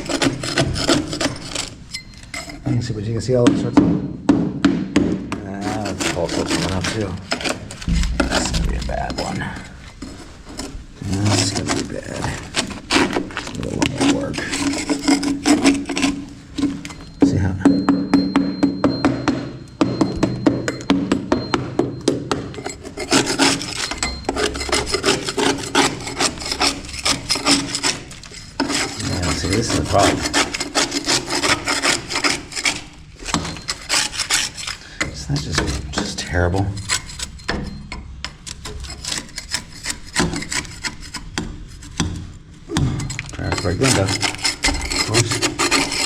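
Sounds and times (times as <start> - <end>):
scraping wall compound and metal: 0.0 - 46.0.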